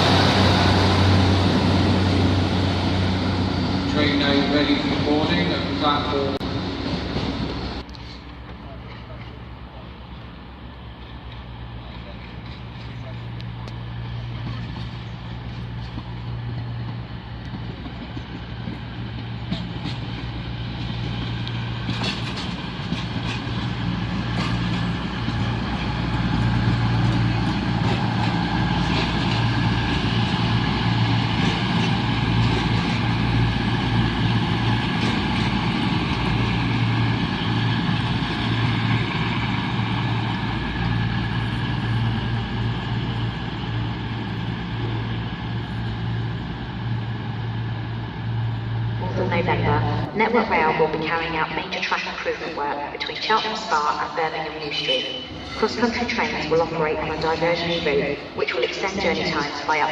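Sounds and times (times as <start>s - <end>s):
diesel train engines humming: 0.0s - 59.9s.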